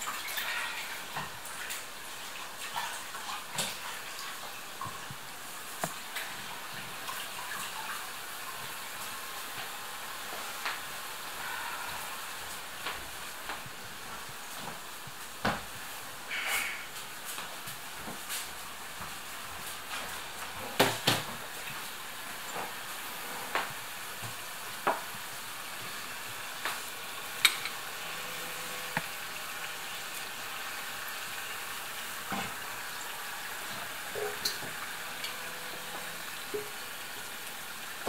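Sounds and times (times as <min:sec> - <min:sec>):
dough sizzling in hot oil: 0:00.0 - 0:38.0.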